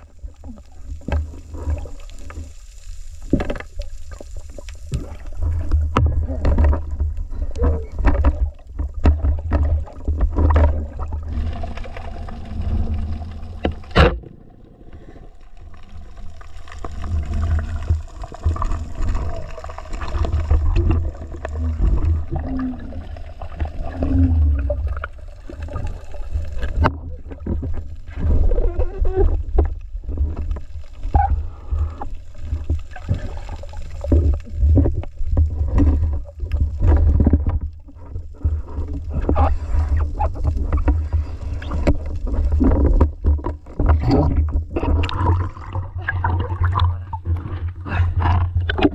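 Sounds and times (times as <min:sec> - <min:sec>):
underwater rumble of water: 0:00.0 - 0:48.9.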